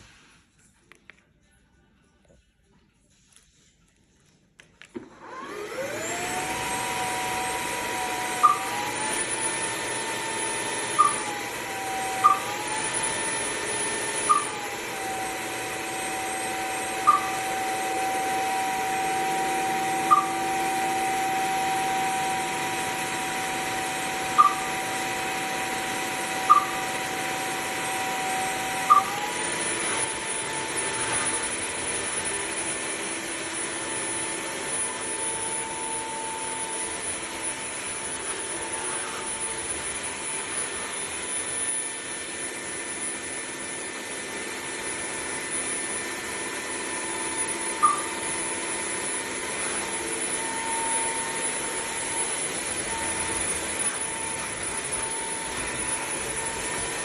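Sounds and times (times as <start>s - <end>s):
vacuum motor whine: 4.8s - 57.0s.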